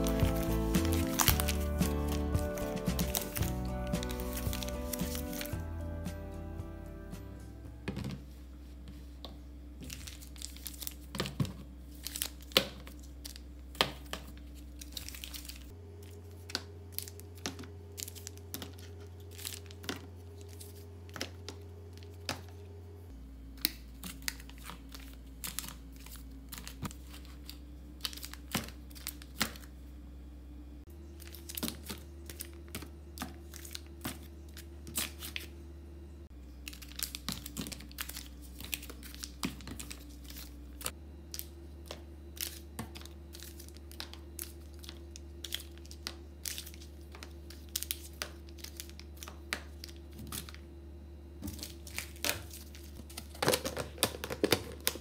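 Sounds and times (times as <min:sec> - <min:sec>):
foil pouches crinkling: 0:00.0 - 0:05.6, 0:09.8 - 0:22.3, 0:23.7 - 0:29.7, 0:31.2 - 0:35.5, 0:36.6 - 0:50.6, 0:51.4 - 0:55.0.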